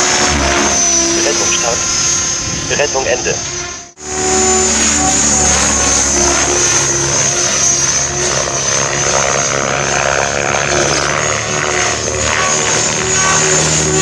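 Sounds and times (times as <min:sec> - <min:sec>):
helicopter rotor blades whooshing: 0:00.0 - 0:14.0
high electric motor whine: 0:00.0 - 0:14.0.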